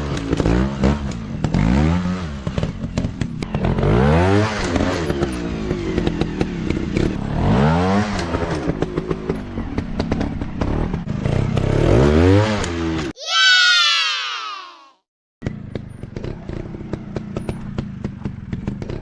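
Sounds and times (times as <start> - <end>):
sharp clatter of bike on rough ground: 0.0 - 13.1, 15.4 - 19.0.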